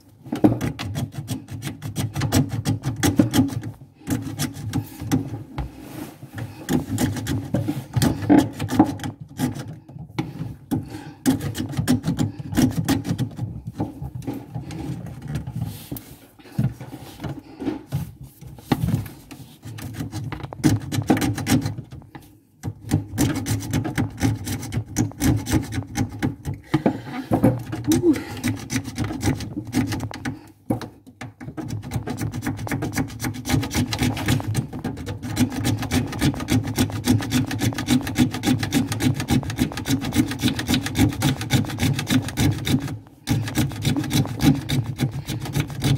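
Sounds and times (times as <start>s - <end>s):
hand tool scraping cupboard edge: 0.3s - 45.9s.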